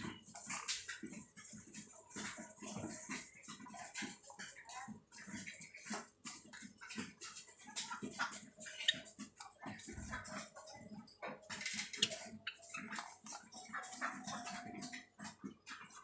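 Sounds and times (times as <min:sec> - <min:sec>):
beaks tapping on plastic tub: 0:00.0 - 0:16.0.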